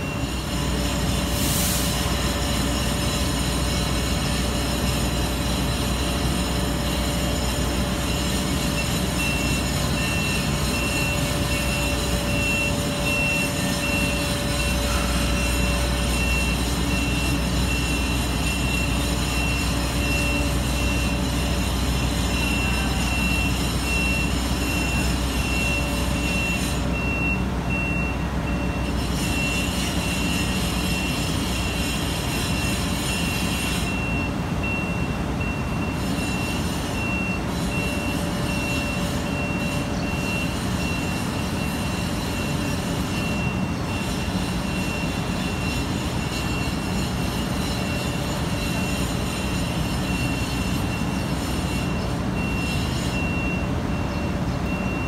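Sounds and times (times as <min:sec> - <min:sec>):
high warning beep: 0:00.0 - 0:01.3, 0:01.9 - 0:55.0
crane diesel engine running: 0:00.0 - 0:55.0.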